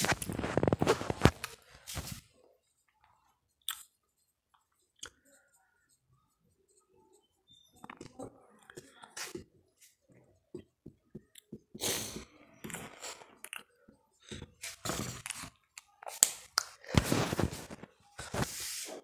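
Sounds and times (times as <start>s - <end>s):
marker squeaking on whiteboard: 3.5s - 19.0s.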